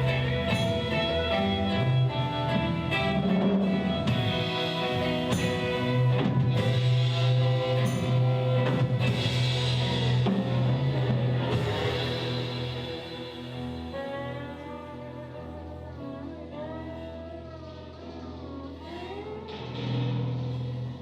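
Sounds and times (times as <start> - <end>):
blues band playing live: 0.0 - 21.0.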